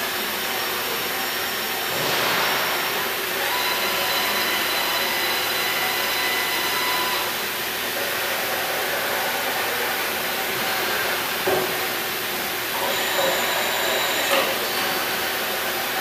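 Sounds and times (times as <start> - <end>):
machine whir with whine: 0.0 - 16.0.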